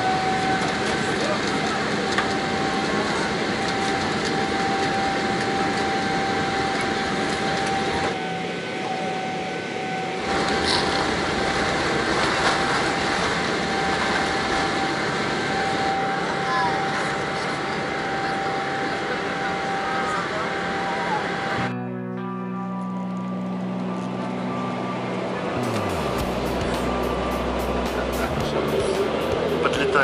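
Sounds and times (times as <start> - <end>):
jet cabin engine noise: 0.0 - 21.7, 23.4 - 30.0.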